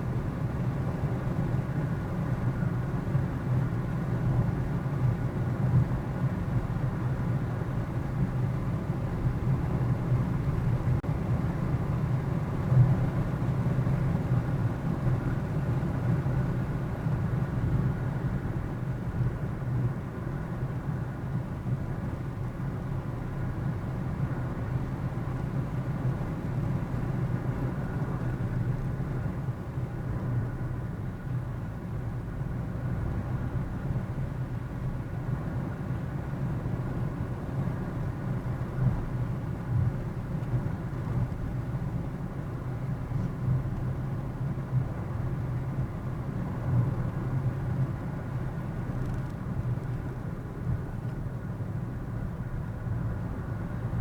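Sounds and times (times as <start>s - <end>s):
road noise inside car: 0.0s - 54.0s.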